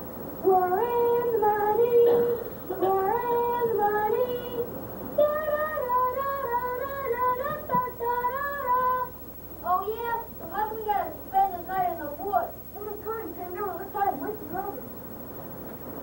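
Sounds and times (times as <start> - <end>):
young voices singing: 0.4 - 14.2.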